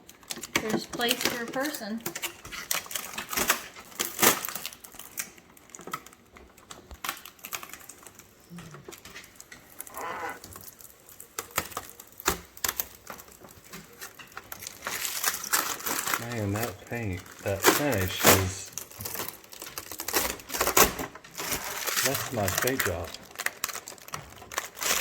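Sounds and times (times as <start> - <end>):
plastic crinkling: 0.0 - 25.0.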